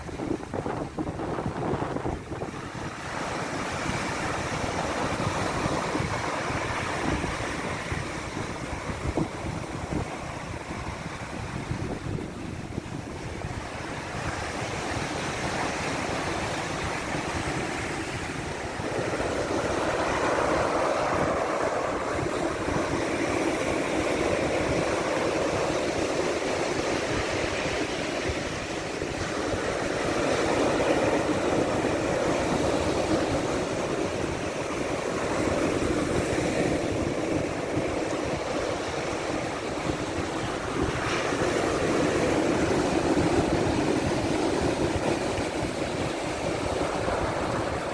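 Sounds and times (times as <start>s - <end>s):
waves washing in: 0.0s - 47.9s.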